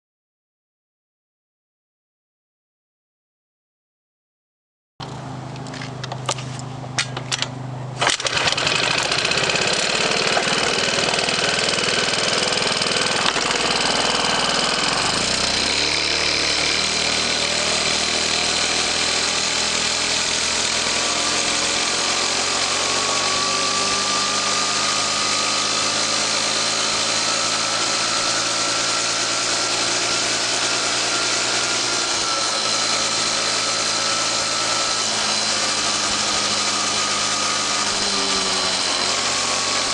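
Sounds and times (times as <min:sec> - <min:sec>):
scooter engine running: 0:05.0 - 0:39.9.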